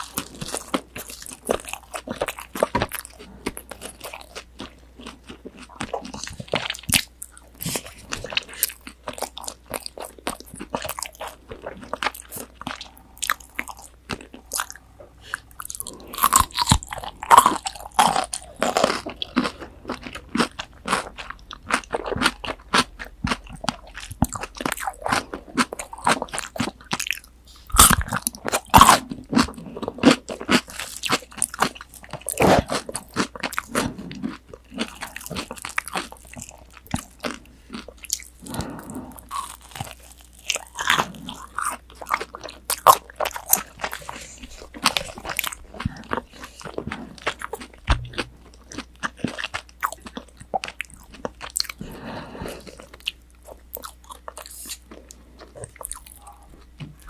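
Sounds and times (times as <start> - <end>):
crunching and chewing food: 0.0 - 57.0.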